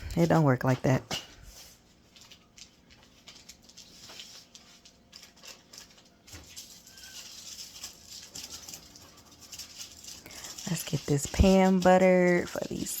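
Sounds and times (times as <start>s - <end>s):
kitchen items clicking and rustling: 0.0s - 13.0s.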